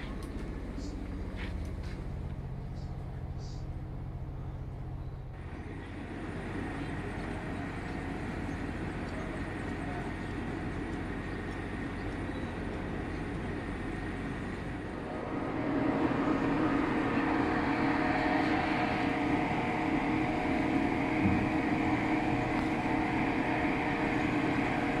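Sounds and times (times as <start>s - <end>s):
ferry machinery hum: 0.0s - 25.0s.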